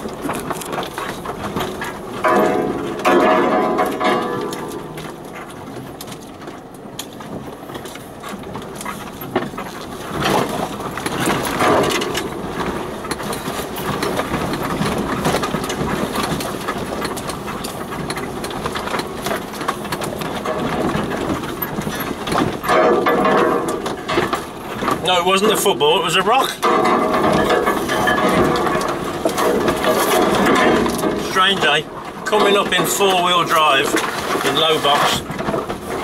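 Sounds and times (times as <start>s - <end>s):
knocks rattles and scrapes: 0.0s - 36.0s
off-road vehicle engine running: 0.0s - 36.0s.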